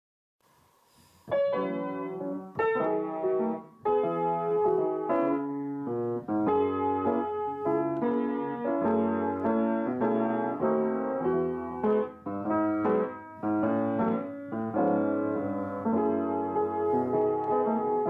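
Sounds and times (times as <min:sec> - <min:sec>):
piano music: 0:01.2 - 0:18.0.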